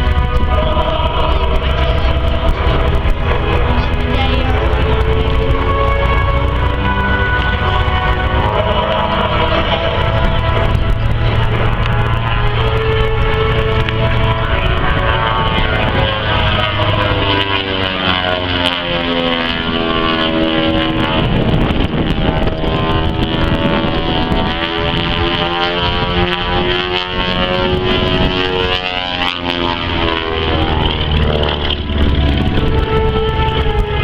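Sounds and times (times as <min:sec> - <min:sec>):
propeller plane engines passing: 0:00.0 - 0:34.0.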